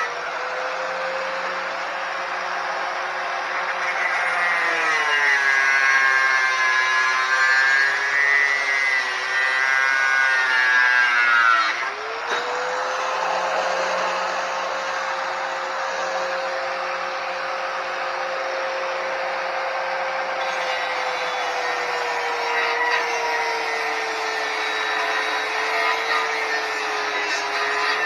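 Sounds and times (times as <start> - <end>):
power grinder grinding steel: 0.0 - 28.0.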